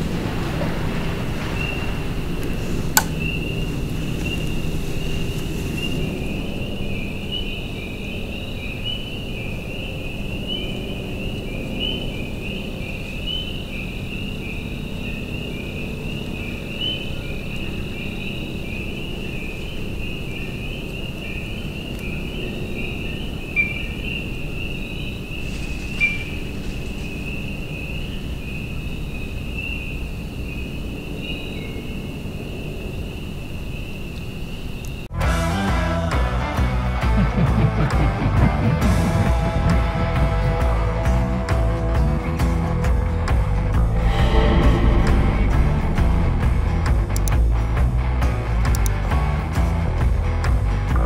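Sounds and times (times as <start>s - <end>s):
crickets chirping: 0.0s - 35.1s, 42.7s - 50.1s
low background rumble: 0.0s - 35.1s, 42.7s - 51.0s.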